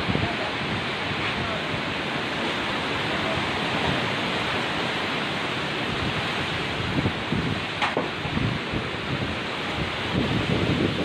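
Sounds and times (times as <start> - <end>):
heavy rain: 0.0 - 11.0
strong wind: 0.0 - 11.0.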